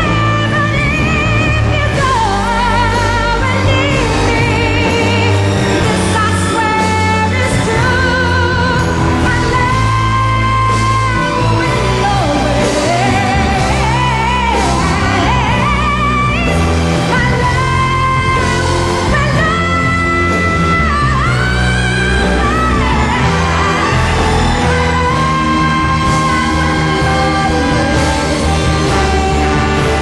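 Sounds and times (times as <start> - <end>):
band accompaniment: 0.0 - 30.0
woman singing a ballad: 0.0 - 30.0.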